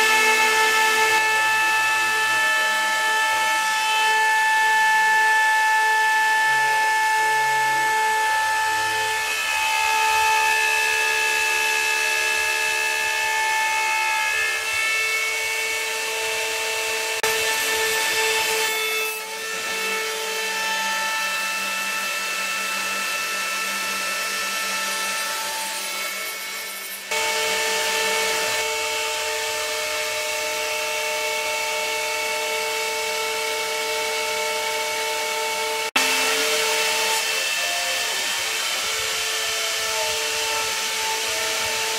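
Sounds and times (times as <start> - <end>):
router spindle high whine: 0.0 - 41.9.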